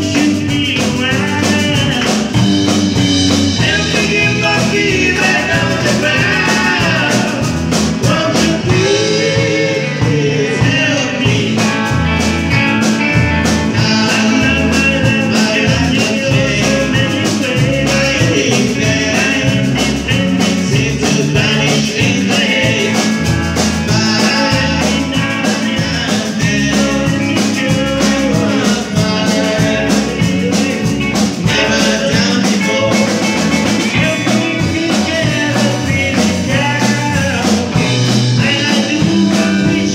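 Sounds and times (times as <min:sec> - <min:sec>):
bass guitar: 0:00.0 - 0:39.9
drums: 0:00.0 - 0:39.9
electric guitars: 0:00.0 - 0:39.9
keyboards: 0:00.0 - 0:39.9
lead vocal singing: 0:00.0 - 0:39.9.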